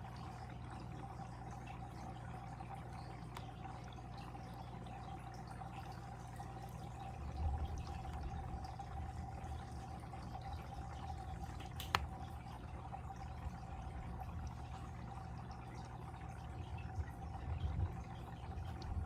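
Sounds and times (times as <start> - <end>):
water trickling in fish tank: 0.0 - 19.0.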